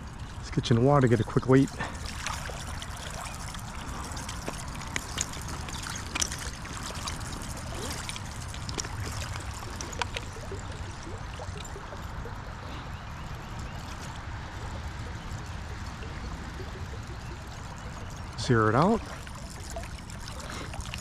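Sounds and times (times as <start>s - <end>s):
creek water trickling: 0.0s - 21.0s
small splashes and clicks: 0.0s - 21.0s.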